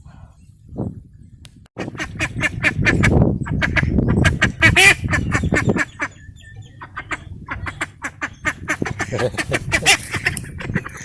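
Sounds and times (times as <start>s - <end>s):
ducks or geese quacking and honking: 1.8s - 11.0s.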